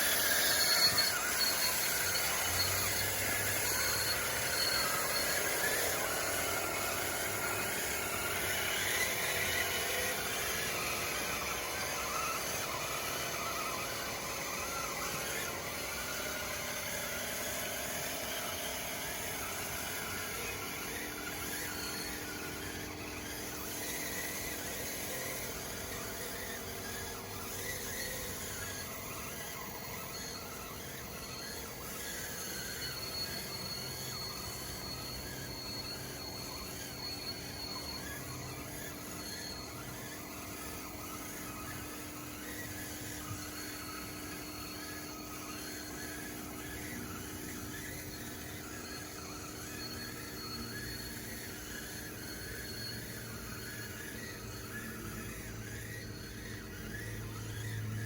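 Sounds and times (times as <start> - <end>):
thin high whine: 0.0 - 58.0
toy bulldozer motors whining: 0.0 - 58.0.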